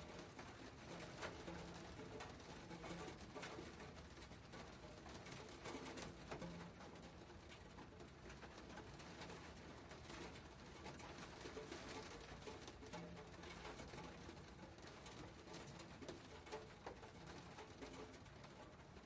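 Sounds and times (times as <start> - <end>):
raindrops pattering: 0.0 - 19.0.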